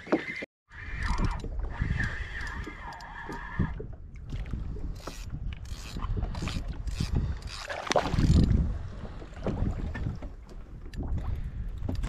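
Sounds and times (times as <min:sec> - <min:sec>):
wind on microphone: 0:00.7 - 0:12.0
water slapping a hull: 0:01.6 - 0:12.0.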